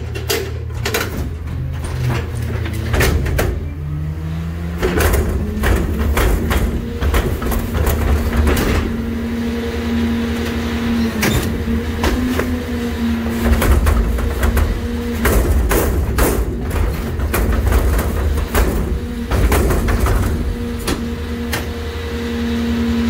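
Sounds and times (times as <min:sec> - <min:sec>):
metal and trash clanking: 0:00.0 - 0:21.8
garbage truck engine humming: 0:00.0 - 0:23.0.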